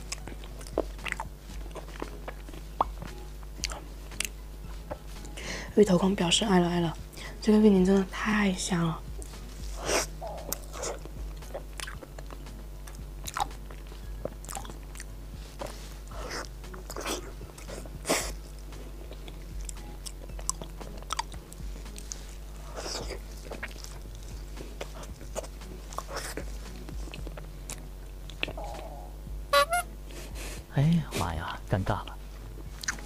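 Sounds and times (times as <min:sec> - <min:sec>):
person chewing sticky food: 0:00.0 - 0:05.4, 0:09.1 - 0:30.6, 0:32.5 - 0:33.0.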